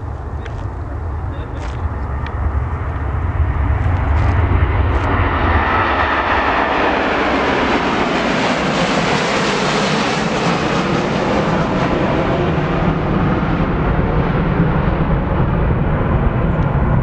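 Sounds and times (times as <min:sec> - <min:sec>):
jet engines roaring past: 0:00.0 - 0:17.0.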